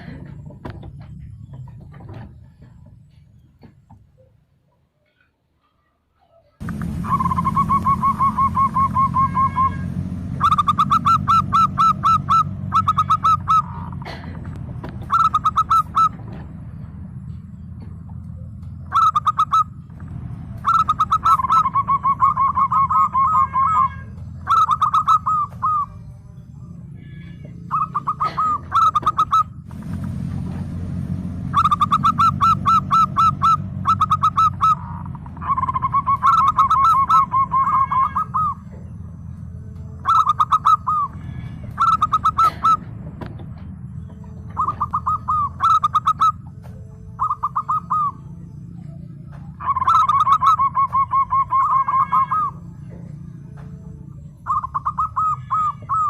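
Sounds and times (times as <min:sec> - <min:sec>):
dove cooing: 0:05.0 - 0:56.0
steady low hum: 0:06.6 - 0:56.0.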